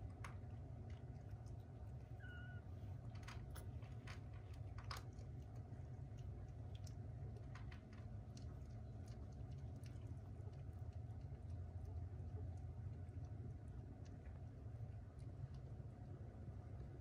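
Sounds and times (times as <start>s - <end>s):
cat licking kittens: 0.0s - 17.0s.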